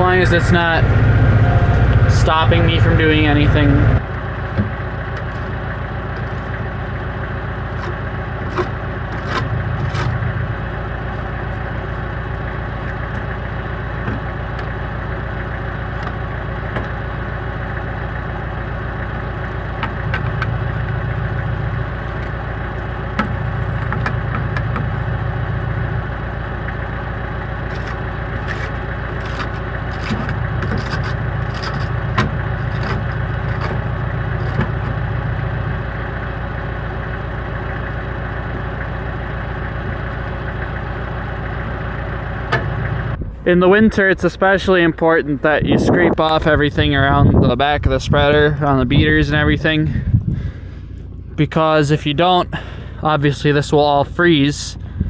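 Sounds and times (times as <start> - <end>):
tractor engine drone: 0.0 - 55.0.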